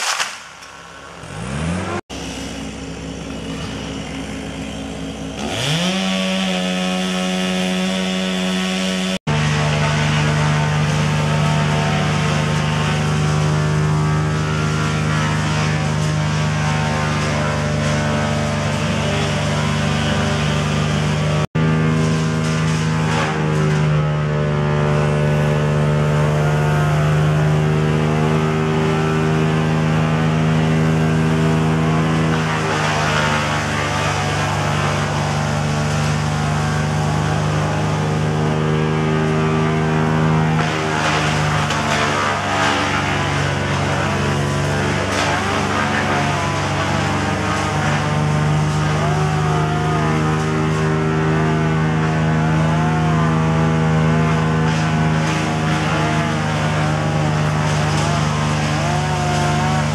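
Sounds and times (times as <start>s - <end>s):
chainsaw revving and cutting: 1.2s - 2.6s, 5.0s - 59.9s.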